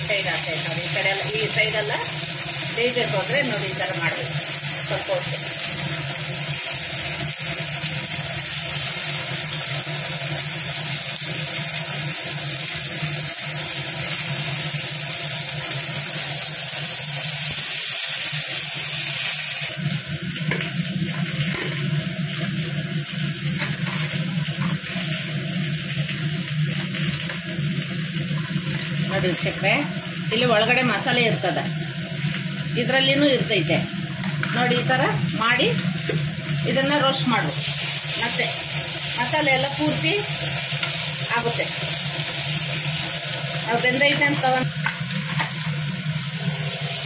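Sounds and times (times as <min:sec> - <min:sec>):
fish sizzling in oil: 0:00.0 - 0:47.0.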